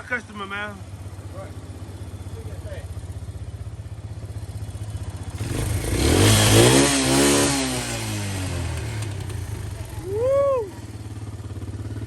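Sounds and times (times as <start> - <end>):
atv engine idling and revving: 0.0 - 12.0.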